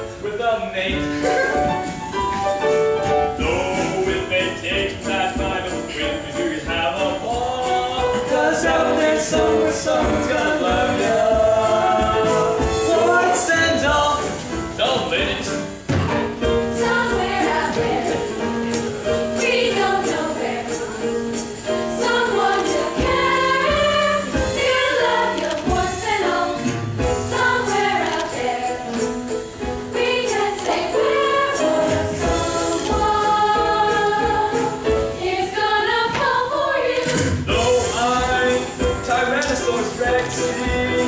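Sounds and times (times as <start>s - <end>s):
instrumental accompaniment: 0.0s - 41.0s
group of voices singing: 3.2s - 15.3s, 16.4s - 41.0s.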